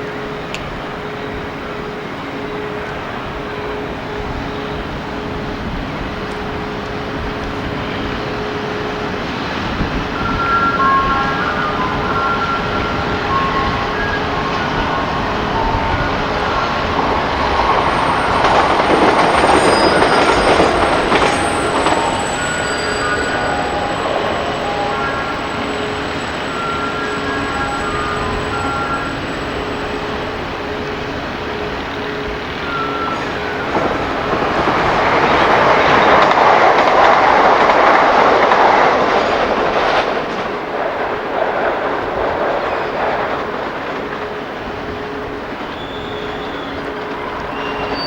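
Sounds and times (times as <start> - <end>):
diesel locomotive engine hum: 0.0 - 48.0
wheels squealing on rails: 0.0 - 48.0.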